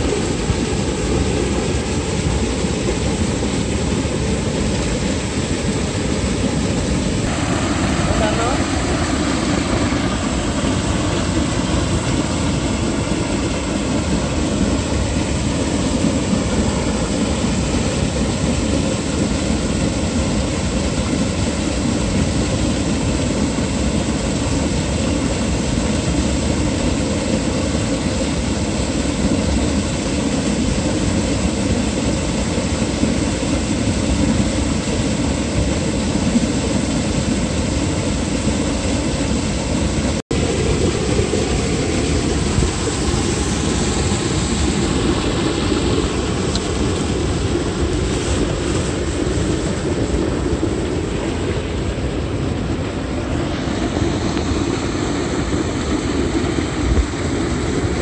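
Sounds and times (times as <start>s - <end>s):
water rushing through channel: 0.0s - 58.0s.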